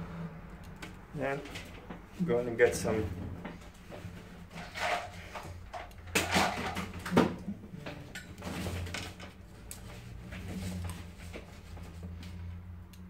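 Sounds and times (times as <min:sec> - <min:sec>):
low steady hum: 0:00.0 - 0:11.9
handling rustles and clatters: 0:01.2 - 0:07.4, 0:08.1 - 0:12.5.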